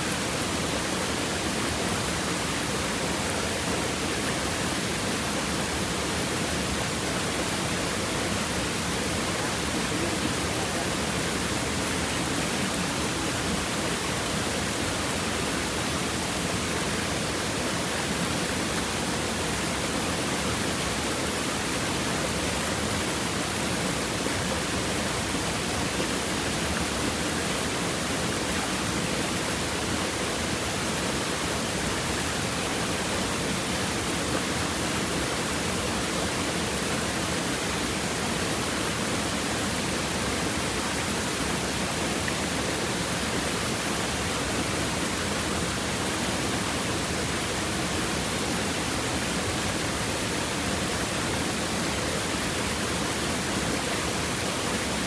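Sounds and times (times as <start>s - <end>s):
stream water babbling over rocks: 0.0s - 55.0s.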